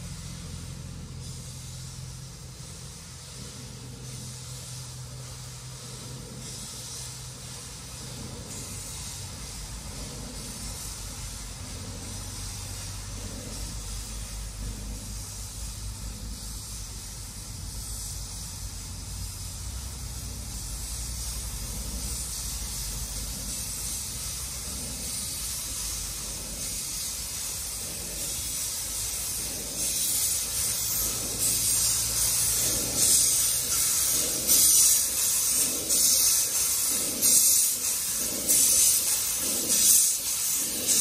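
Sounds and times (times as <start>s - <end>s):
steam locomotive hissing: 0.0s - 41.0s.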